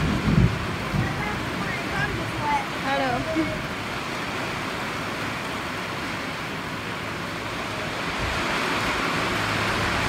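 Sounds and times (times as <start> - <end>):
strong wind rushing: 0.0 - 5.6, 7.4 - 10.0.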